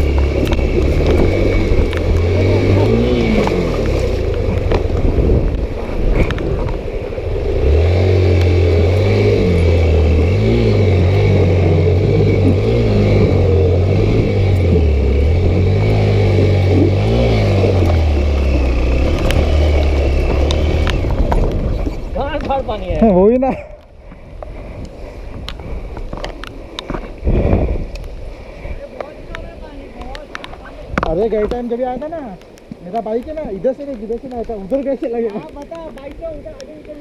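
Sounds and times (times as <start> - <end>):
steady rushing background: 0.0 - 36.8
vehicle engine at low revs: 0.0 - 37.0.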